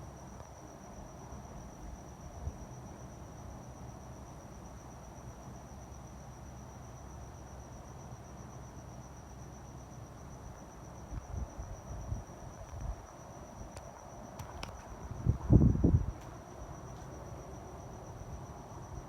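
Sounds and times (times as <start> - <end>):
cricket chirring: 0.0 - 19.0.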